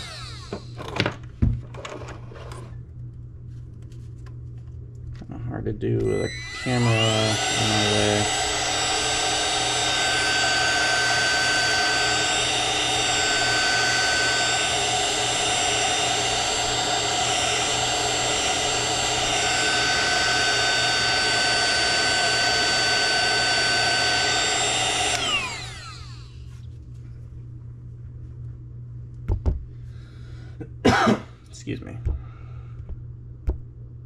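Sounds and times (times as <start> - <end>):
heat gun fan whine: 0.0 - 3.2, 4.2 - 34.0.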